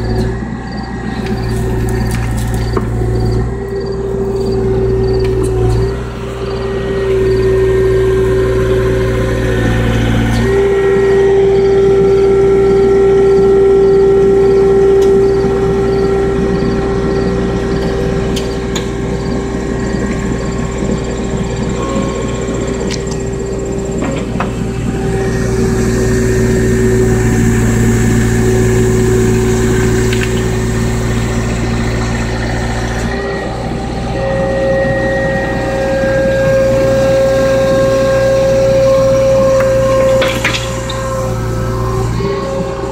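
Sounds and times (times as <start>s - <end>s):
hydraulic whine: 0.0s - 42.9s
skid steer engine running: 0.0s - 42.9s.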